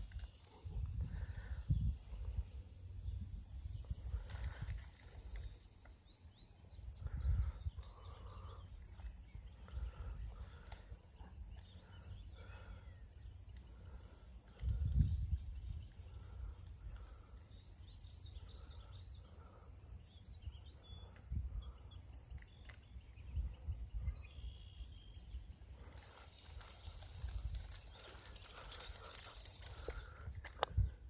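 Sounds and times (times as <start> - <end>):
high insect trill: 0.0 - 31.0
rustling hiss with rapid ticks: 0.0 - 31.0.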